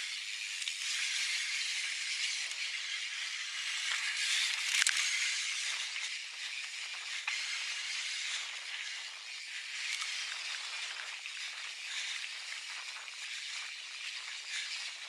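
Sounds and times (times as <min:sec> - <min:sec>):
bike tyres rolling over dirt: 0:02.8 - 0:15.0.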